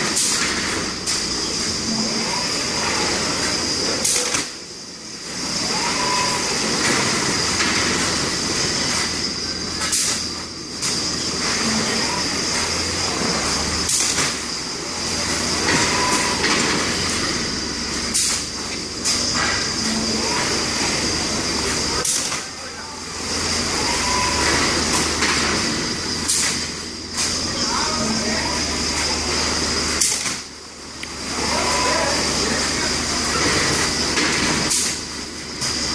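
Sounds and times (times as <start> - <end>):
machine hum and hiss: 0.0 - 35.9
robot arm whines: 0.1 - 35.9.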